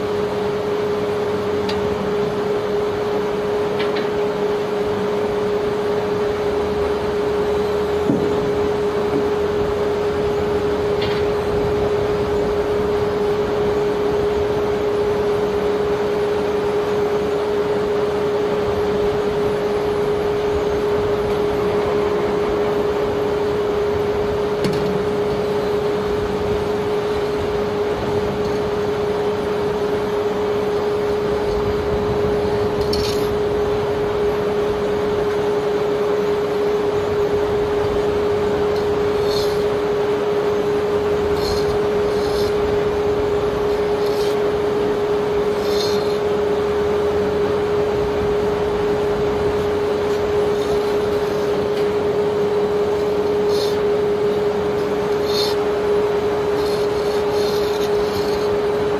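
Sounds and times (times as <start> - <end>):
machinery humming: 0.0 - 58.9.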